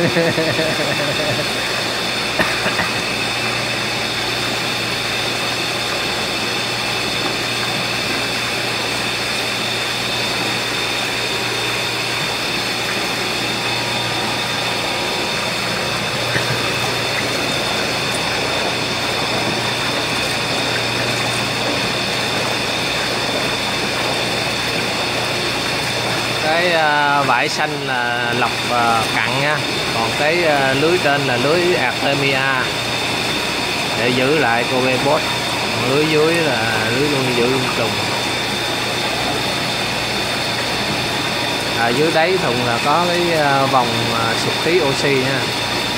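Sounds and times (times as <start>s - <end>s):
low motor hum: 0.0s - 45.9s
water gushing from a hose: 0.0s - 45.9s.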